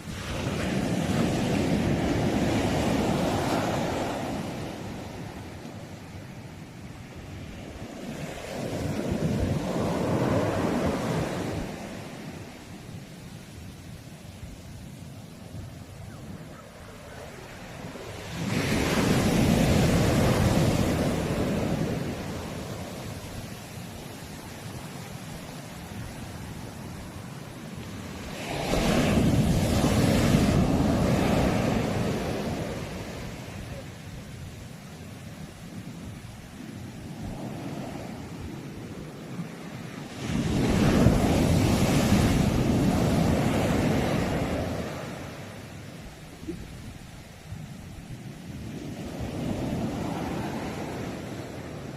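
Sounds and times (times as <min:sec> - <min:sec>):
waves breaking on shore: 0:00.0 - 0:51.9.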